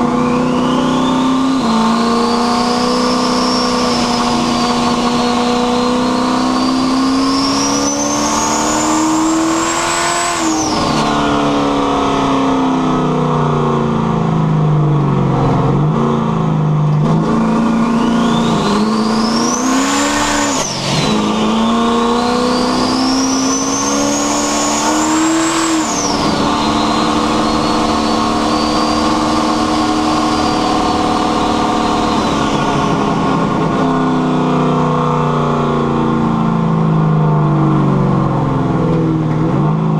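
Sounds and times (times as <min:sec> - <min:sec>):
car engine accelerating: 0:00.0 - 0:39.9
turbo whine: 0:00.0 - 0:39.9.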